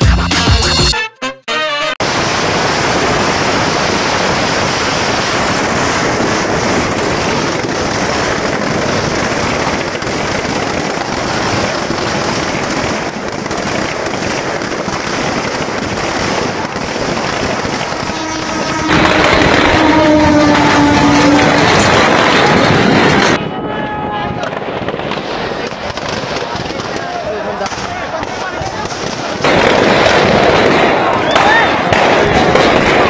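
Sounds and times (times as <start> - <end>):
firecrackers crackling: 2.0 - 23.5, 24.2 - 33.0.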